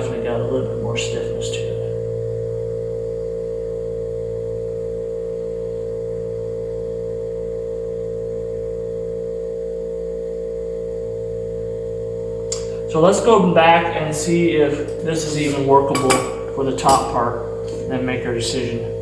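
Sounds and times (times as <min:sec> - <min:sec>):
steady drone of held tones: 0:00.0 - 0:19.0.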